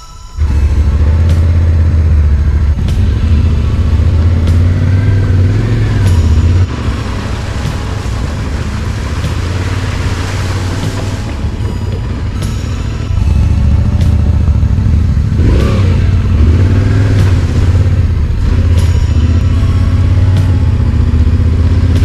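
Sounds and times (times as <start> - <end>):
motorcycle engine rumble: 0.4 - 22.0.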